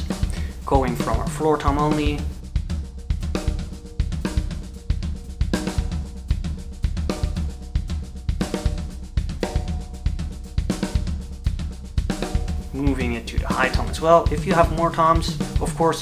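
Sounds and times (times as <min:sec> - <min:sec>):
bass drum hits: 0:00.0 - 0:16.0
floor tom strokes: 0:00.0 - 0:16.0.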